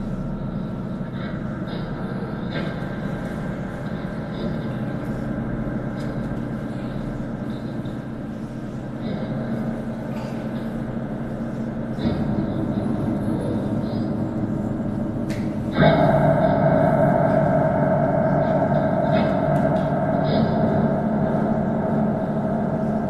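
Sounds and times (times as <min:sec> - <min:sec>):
droning sustained tones: 0:00.0 - 0:23.0.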